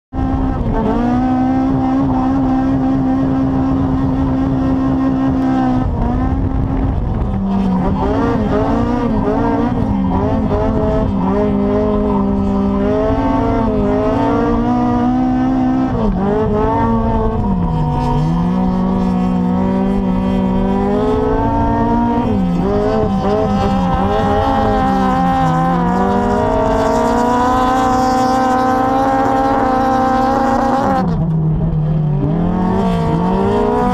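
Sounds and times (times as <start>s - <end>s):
car engine at high revs: 0.1s - 33.9s.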